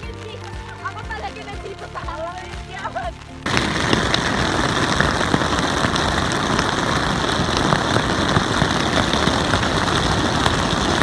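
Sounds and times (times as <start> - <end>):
heavy rain on a tent: 0.0 - 11.0.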